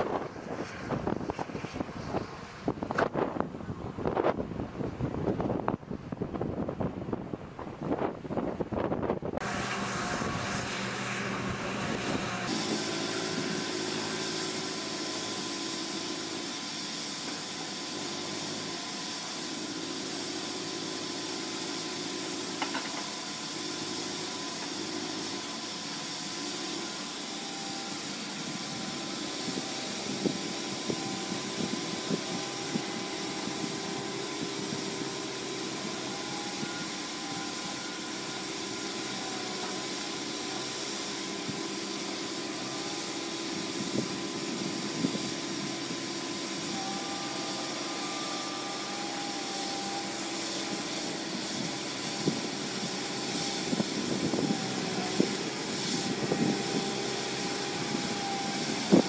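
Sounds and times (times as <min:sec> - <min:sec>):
excavator engine running with hiss: 0:00.0 - 0:59.0.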